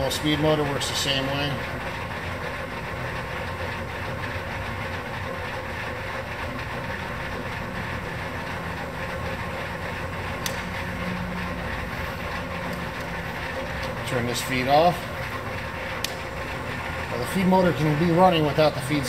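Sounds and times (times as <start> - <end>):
lathe mechanical hum: 0.0 - 19.0.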